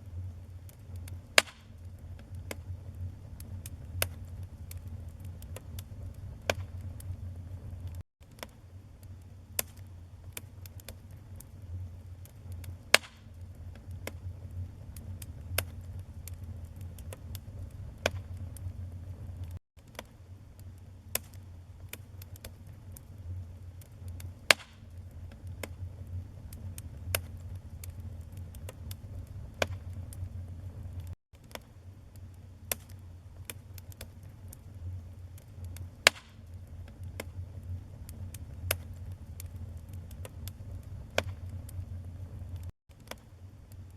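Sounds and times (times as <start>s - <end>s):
low rumble of flames: 0.0s - 43.9s
wood fire crackling: 0.0s - 43.9s
loud fire pops: 0.6s - 8.6s, 12.2s - 20.0s, 21.1s - 31.6s, 32.7s - 42.7s.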